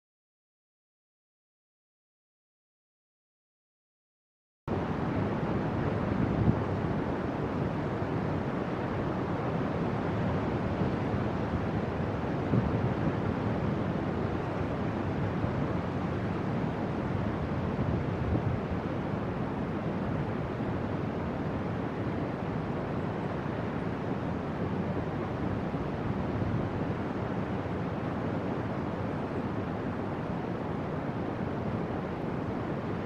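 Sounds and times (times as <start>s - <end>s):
ocean surf: 4.7s - 33.0s
wind on microphone: 4.7s - 33.0s.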